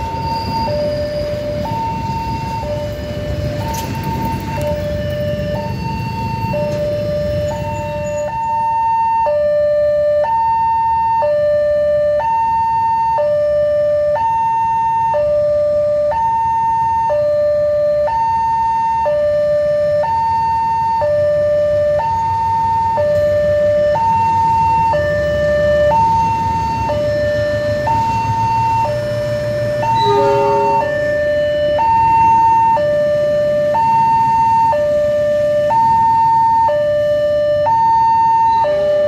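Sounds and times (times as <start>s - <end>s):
two-tone crossing alarm: 0.0s - 39.0s.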